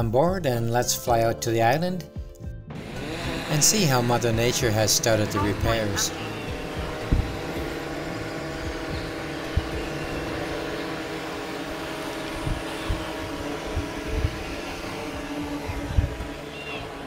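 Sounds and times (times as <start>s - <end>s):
drone propellers whirring: 2.7s - 17.0s.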